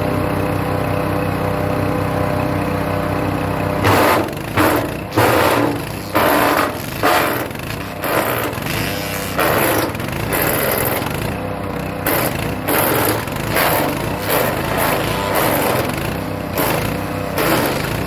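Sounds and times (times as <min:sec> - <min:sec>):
wood chipper engine running: 0:00.0 - 0:18.0.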